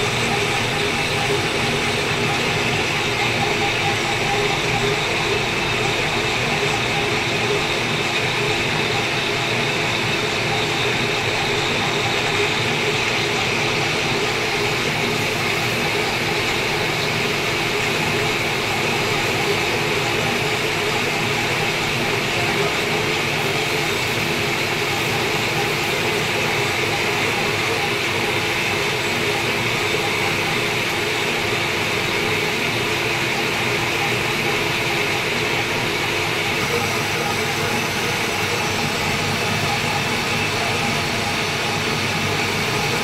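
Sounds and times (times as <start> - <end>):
lathe running: 0.0 - 43.0.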